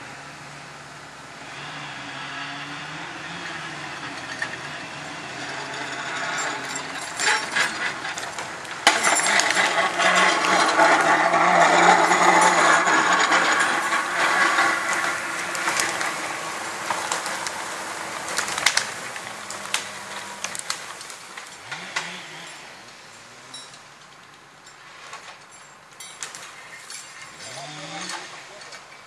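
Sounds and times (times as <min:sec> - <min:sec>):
cableway carriage rattling: 0:02.6 - 0:29.0.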